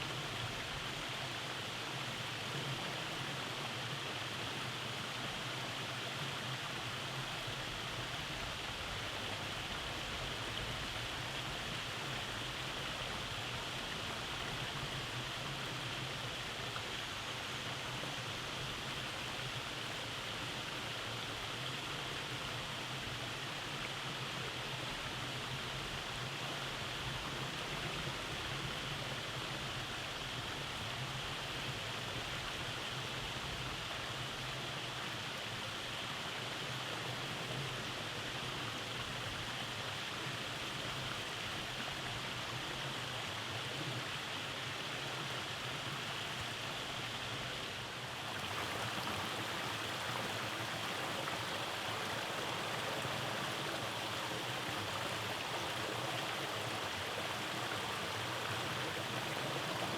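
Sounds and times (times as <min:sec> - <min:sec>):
stream running over cascades: 0:00.0 - 0:59.9.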